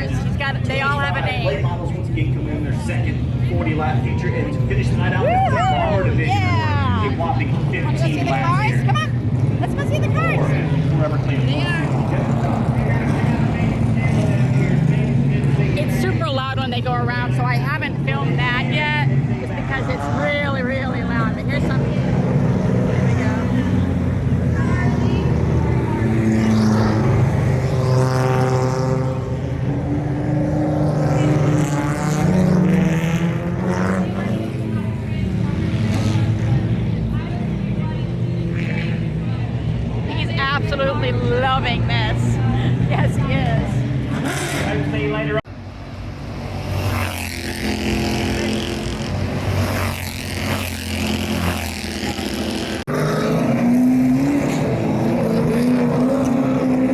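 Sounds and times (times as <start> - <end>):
race car engines: 0.0 - 56.9.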